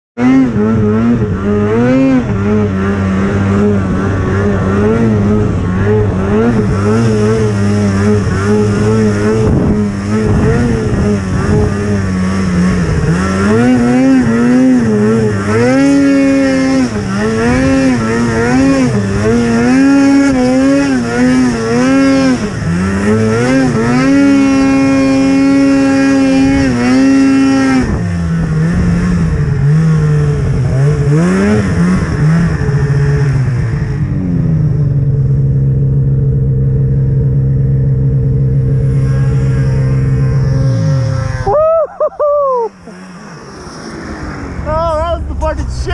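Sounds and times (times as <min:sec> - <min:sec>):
snowmobile engine revving: 0:00.2 - 0:45.9.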